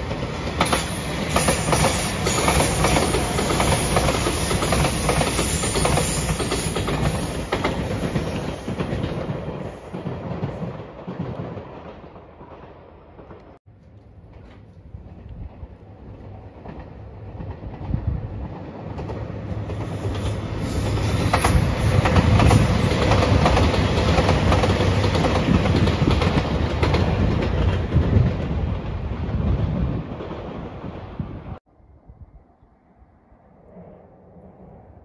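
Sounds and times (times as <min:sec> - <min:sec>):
diesel train engines: 0:00.0 - 0:29.1
train rumble: 0:00.0 - 0:31.6.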